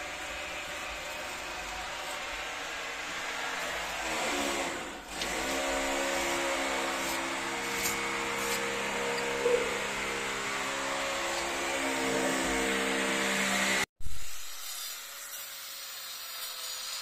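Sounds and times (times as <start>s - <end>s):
power tool motor whining: 0.0s - 14.8s.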